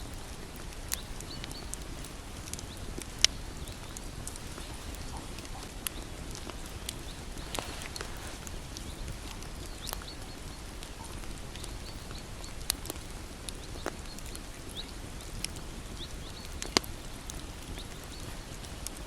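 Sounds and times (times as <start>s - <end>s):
burning wood popping and snapping: 0.0s - 19.0s
low rumble of fire: 0.0s - 19.0s.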